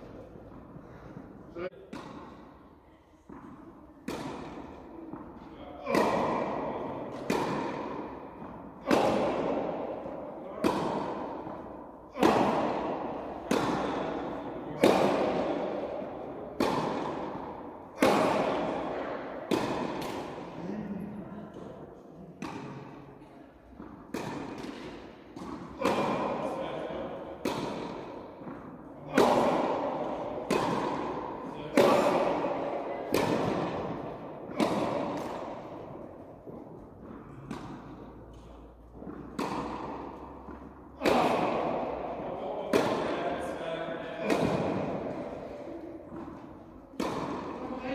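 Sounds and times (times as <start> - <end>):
tennis ball bouncing on court: 1.8 - 2.6, 3.2 - 20.6, 22.4 - 23.0, 23.6 - 47.9
racket striking tennis ball: 1.8 - 2.7, 3.3 - 20.6, 22.4 - 23.0, 23.7 - 47.9.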